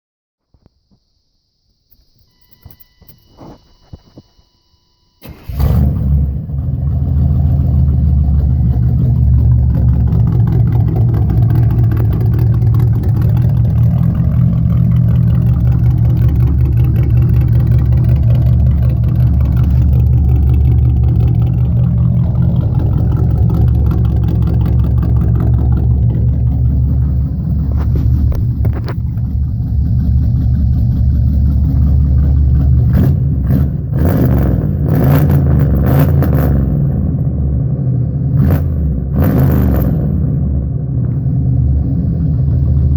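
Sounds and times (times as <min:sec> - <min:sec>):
car engine starting and running: 0:02.3 - 0:42.9
deep exhaust note: 0:05.3 - 0:42.9.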